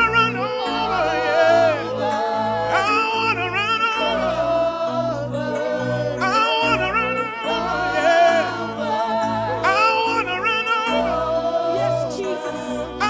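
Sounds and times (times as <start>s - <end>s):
bass and keyboard accompaniment: 0.0s - 13.0s
singers holding long notes: 0.0s - 13.0s.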